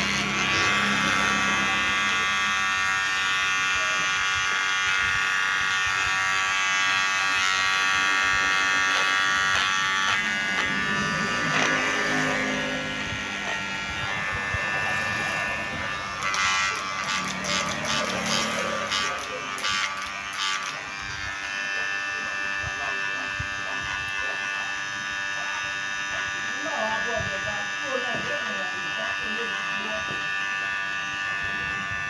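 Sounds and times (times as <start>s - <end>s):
hair clipper buzzing: 0.0s - 32.0s.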